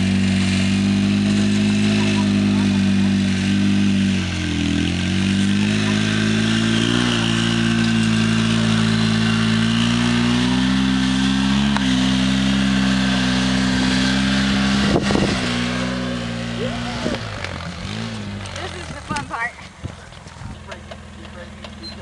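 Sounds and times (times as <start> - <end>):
utility vehicle engine running: 0.0 - 22.0.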